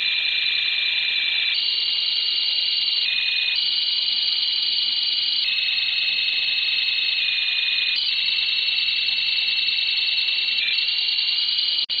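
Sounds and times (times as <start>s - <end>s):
high-pitched electronic data tones: 0.0s - 12.0s.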